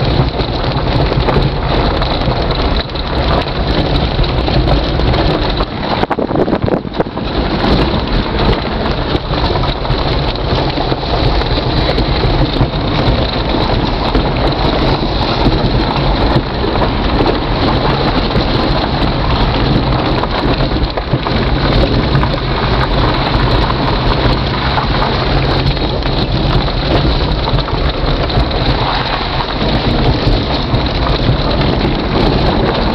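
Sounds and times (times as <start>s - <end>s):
engine hum: 0.0s - 32.9s
tyre and road noise: 0.0s - 32.9s.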